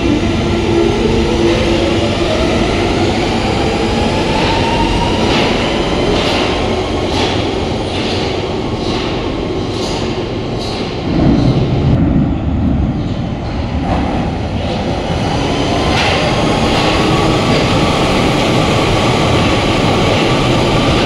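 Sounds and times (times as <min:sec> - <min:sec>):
train wheels clacking: 0:02.4 - 0:12.0, 0:13.0 - 0:21.0.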